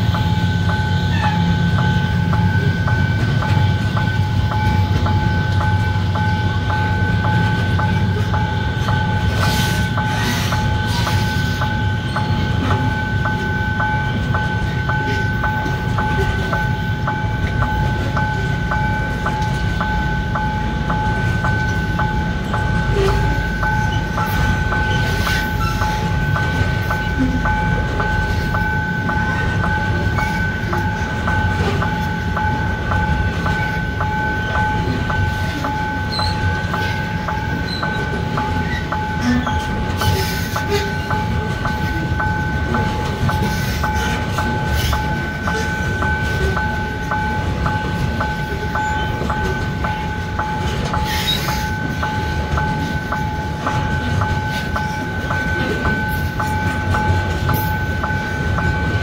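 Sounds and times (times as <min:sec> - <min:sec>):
freight train rumbling past: 0:00.0 - 0:59.0
train wagons clanking: 0:00.0 - 0:59.0.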